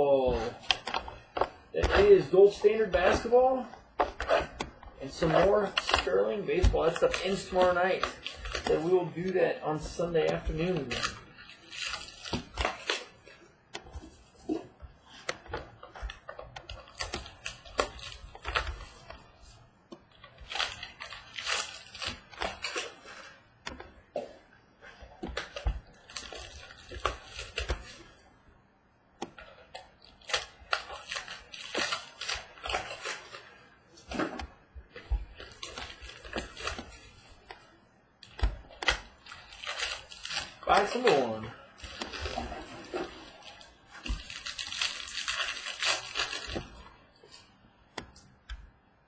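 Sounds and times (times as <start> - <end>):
foil packs crinkling: 0.0 - 13.4, 14.0 - 19.4, 20.2 - 23.4, 24.2 - 28.2, 29.4 - 47.5.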